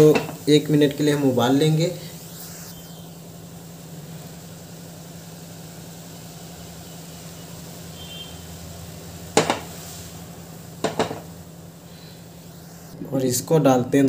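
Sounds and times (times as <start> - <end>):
water boiling in saucepan: 0.0 - 13.3
gas burner hum: 0.0 - 14.0.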